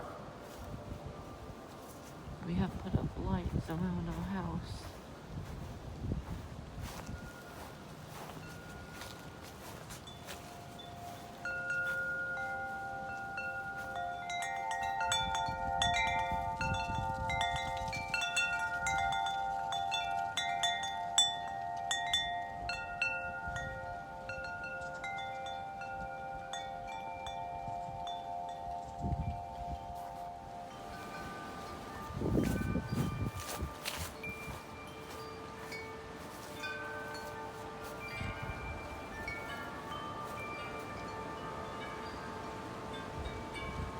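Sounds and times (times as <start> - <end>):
wind chimes ringing: 0.0 - 43.9
wind rumble on microphone: 0.0 - 43.9.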